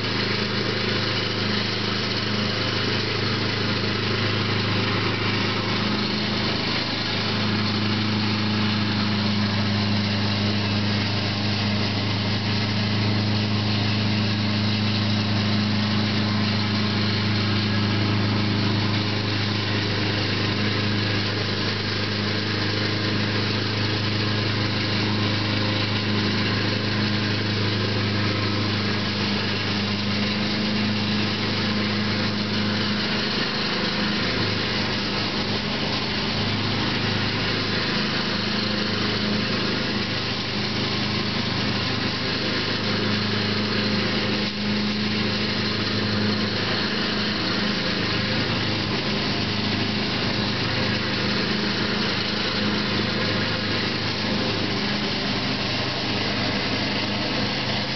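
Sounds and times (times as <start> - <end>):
lawn mower running: 0.0 - 57.9.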